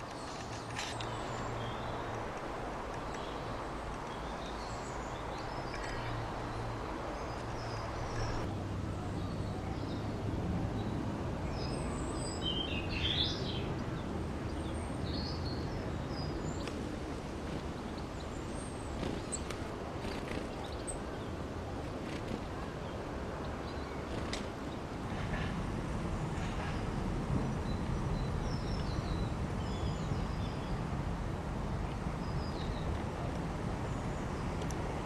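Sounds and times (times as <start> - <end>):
small birds chirping: 0.0 - 25.6, 26.3 - 30.9, 32.1 - 33.0.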